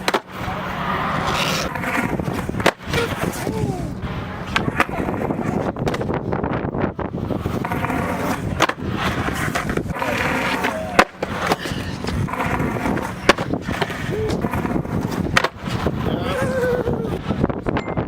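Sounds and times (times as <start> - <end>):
skateboard clacks: 0.0 - 17.8
skateboard wheels rolling on concrete: 0.0 - 17.9.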